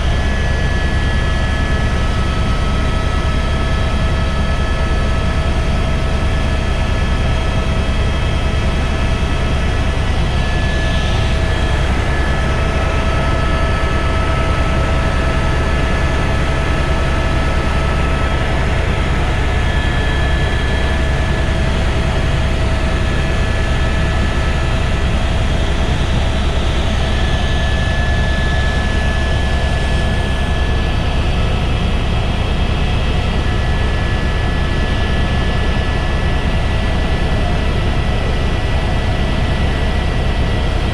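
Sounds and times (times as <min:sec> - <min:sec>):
helicopter drone and whine: 0:00.0 - 0:40.9.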